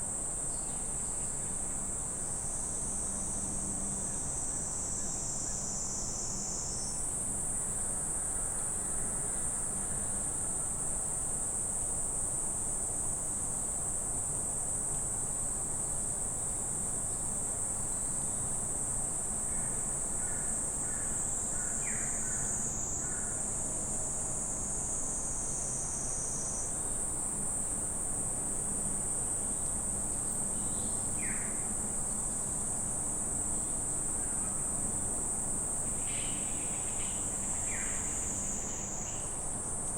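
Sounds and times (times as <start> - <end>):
high-pitched insect chorus: 0.2 - 39.9.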